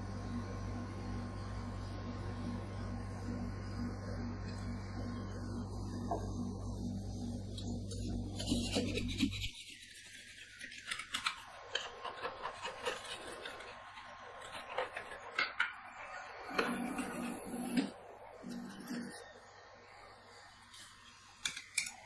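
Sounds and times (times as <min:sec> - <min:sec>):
low hum: 0:00.0 - 0:21.4.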